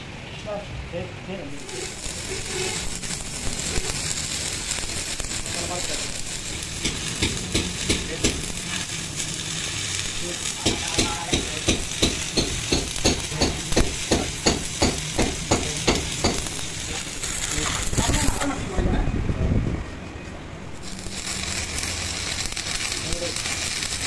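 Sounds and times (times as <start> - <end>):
welding arc crackling and sizzling: 1.3 - 19.0, 20.6 - 24.0.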